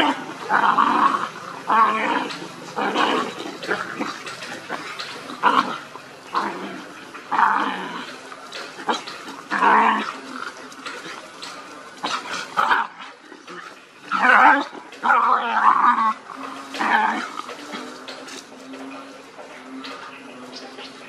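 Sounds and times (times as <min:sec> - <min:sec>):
dogs growling and snarling: 0:00.0 - 0:21.0.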